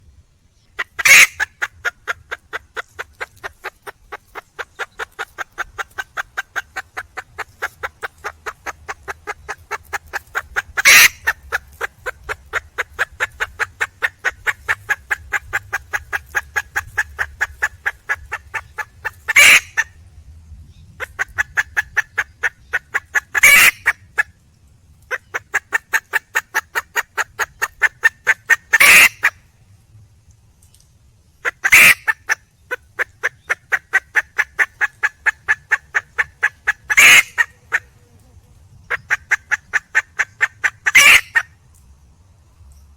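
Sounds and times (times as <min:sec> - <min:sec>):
hen squawking: 0:00.8 - 0:19.8, 0:21.0 - 0:24.2, 0:25.1 - 0:29.3, 0:31.4 - 0:38.0, 0:38.9 - 0:41.5
hen clucking rapidly: 0:00.8 - 0:20.0, 0:21.0 - 0:24.3, 0:25.1 - 0:29.4, 0:31.4 - 0:41.6.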